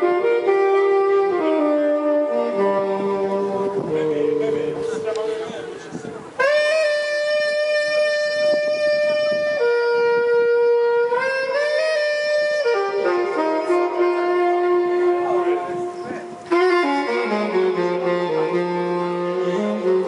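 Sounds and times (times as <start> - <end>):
saxophone melody: 0.0 - 20.0.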